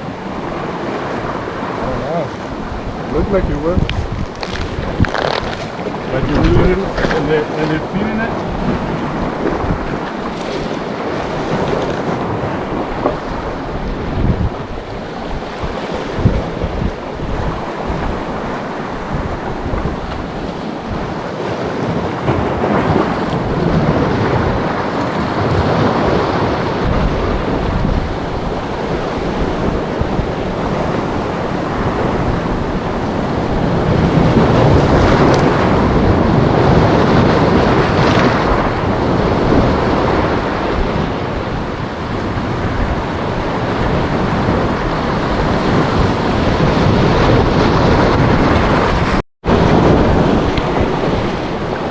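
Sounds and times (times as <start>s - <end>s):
sea waves rushing: 0.0s - 51.9s
wind buffeting microphone: 0.0s - 51.9s.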